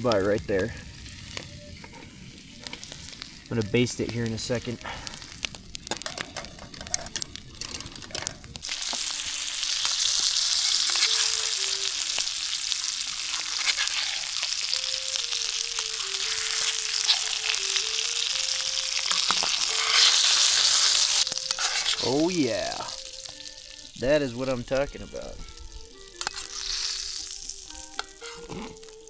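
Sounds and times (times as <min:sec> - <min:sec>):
steak sizzling in a pan: 0:00.0 - 0:29.0.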